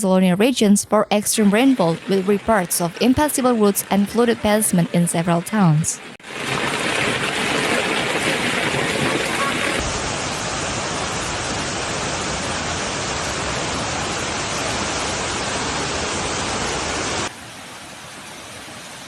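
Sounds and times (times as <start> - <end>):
heavy water rushing: 1.3 - 19.0.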